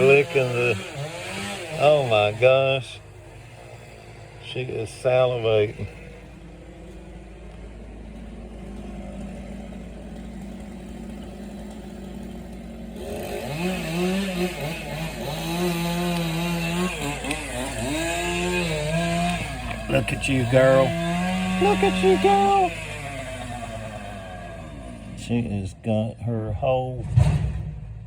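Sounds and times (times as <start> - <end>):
chainsaw cutting wood: 0.0 - 25.5.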